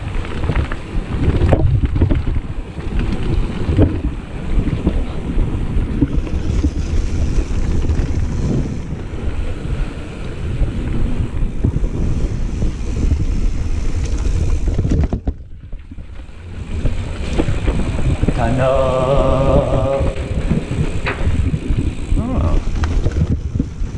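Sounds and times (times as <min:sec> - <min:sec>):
bike knocks and rattles: 0:00.0 - 0:18.6, 0:19.6 - 0:23.9
bike tyre rumble: 0:00.0 - 0:23.9
wind buffeting microphone: 0:00.0 - 0:23.9.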